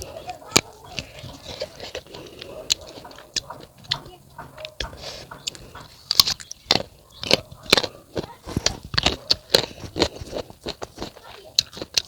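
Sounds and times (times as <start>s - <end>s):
chewing crisp fruit: 0.0s - 12.0s.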